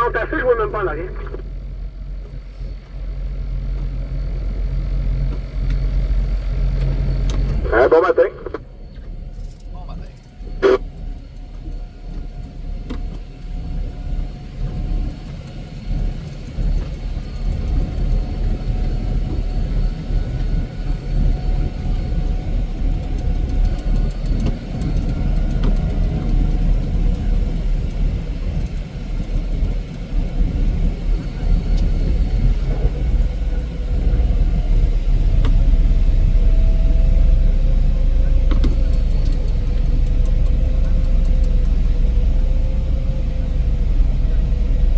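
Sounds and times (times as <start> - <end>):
heavy machine engine running: 0.0 - 44.9.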